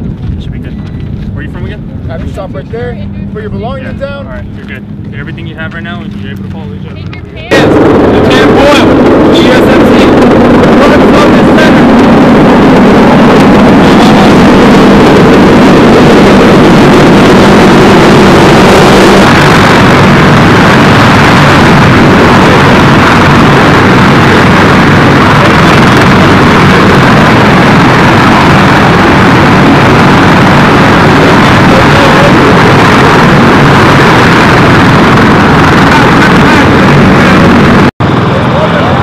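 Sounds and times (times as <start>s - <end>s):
aircraft engines droning: 0.0s - 39.0s.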